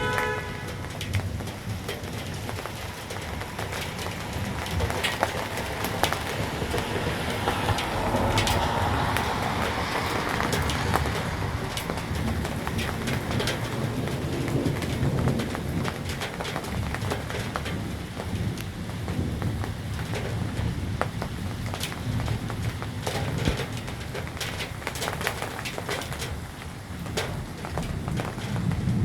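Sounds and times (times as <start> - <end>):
rain drops on hard surface: 0.0 - 29.0
thunder rumbling: 0.0 - 29.0.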